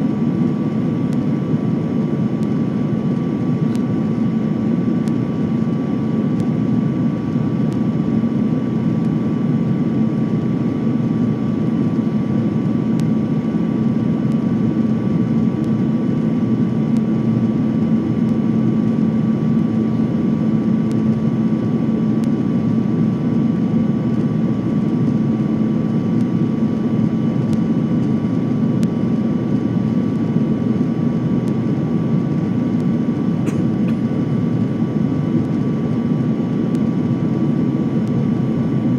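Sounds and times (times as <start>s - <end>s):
jet engines roaring: 0.0s - 38.9s
low hum: 0.0s - 38.9s.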